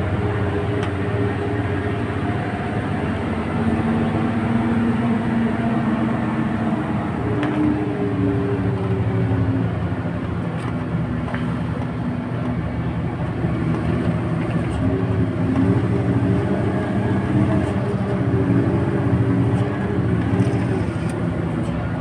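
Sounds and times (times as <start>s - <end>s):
bus engine drone: 0.0s - 22.0s
road rumble: 0.0s - 22.0s.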